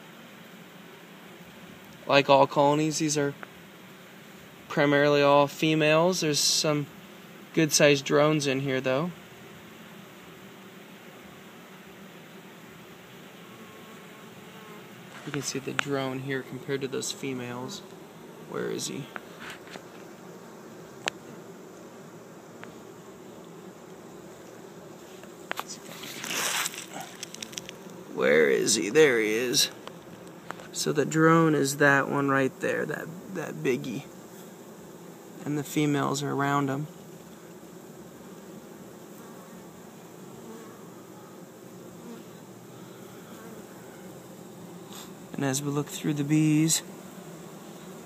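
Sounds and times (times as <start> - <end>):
bee swarm buzzing: 0.0 - 48.0.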